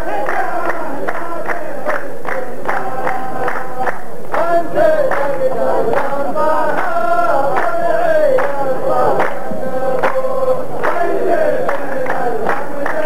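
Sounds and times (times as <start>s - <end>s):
hand clapping: 0.0s - 13.0s
men chanting in unison: 0.0s - 13.0s.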